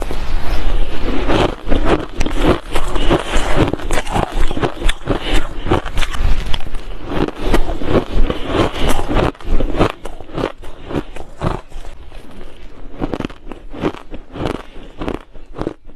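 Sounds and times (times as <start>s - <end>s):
ice being chewed: 0.0s - 15.9s.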